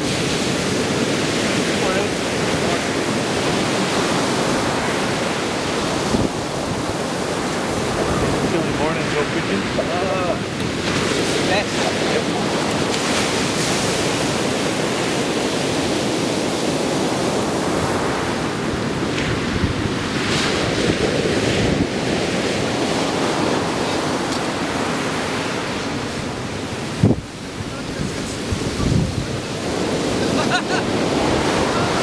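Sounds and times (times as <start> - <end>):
ocean waves breaking on beach: 0.0 - 32.0
wind buffeting microphone: 0.0 - 32.0.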